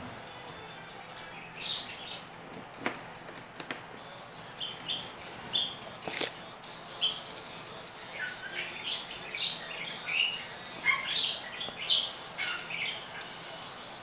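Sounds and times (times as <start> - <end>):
small birds chirping: 0.3 - 2.4, 4.0 - 14.0.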